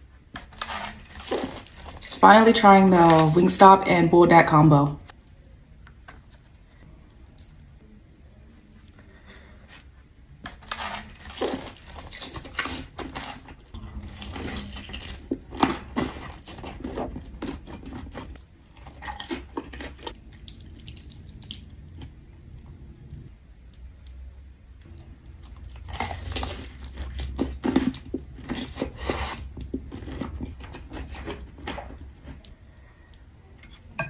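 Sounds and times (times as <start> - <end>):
faint low hum: 0.0 - 34.0
person chewing crunchy food: 0.4 - 2.2, 6.2 - 24.2, 24.8 - 34.0.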